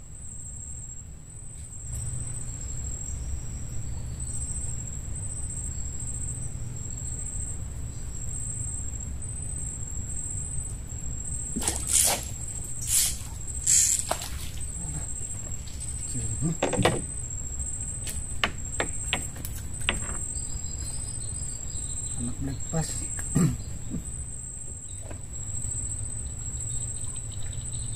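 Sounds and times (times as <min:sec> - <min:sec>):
insects chirring: 0:00.0 - 0:27.9.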